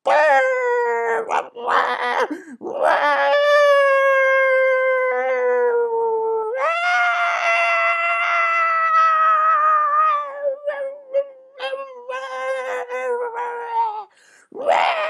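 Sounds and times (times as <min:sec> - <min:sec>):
person howling a high ooo: 0:00.1 - 0:15.0.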